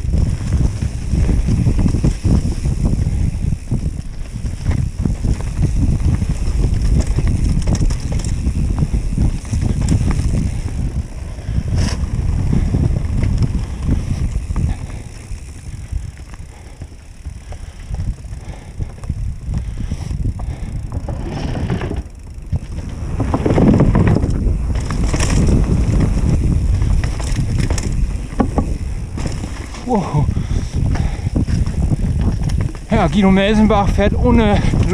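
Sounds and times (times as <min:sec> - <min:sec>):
bike rattling and knocking: 0:00.0 - 0:34.9
tyres and wind rumble: 0:00.0 - 0:34.9.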